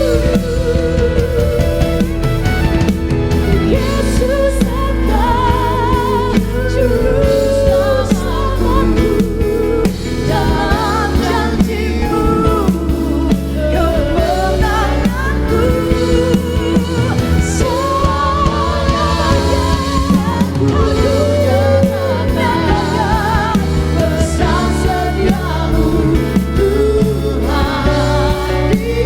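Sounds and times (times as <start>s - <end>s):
worship band music: 0.0s - 29.0s.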